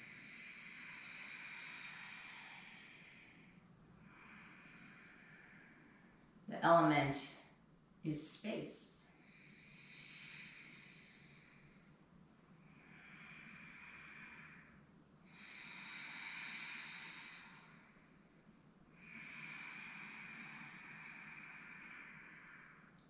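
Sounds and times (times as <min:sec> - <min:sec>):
woman breathing slowly: 0:00.0 - 0:06.5, 0:08.8 - 0:23.0.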